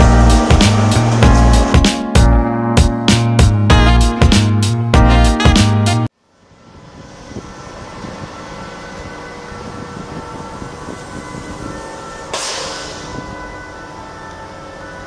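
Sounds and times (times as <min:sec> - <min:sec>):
train power car humming: 0:00.0 - 0:04.1, 0:06.2 - 0:15.0.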